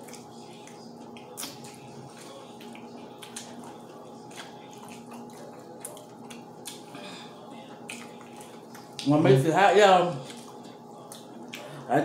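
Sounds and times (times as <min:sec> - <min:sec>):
people chewing fried chicken: 0:00.0 - 0:09.4, 0:10.1 - 0:12.0.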